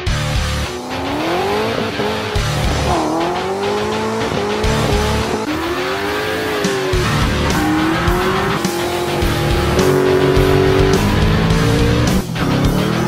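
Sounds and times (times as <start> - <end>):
car engine revving: 0.0 - 13.0
music with heavy bass beat: 0.0 - 13.0.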